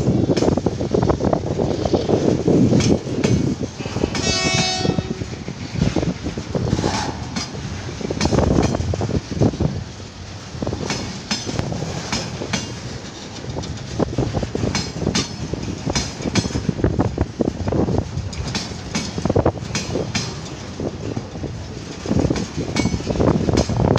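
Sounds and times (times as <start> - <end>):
low train rumble: 0.0 - 23.9
train wheels clicking over rail joints: 0.0 - 23.9.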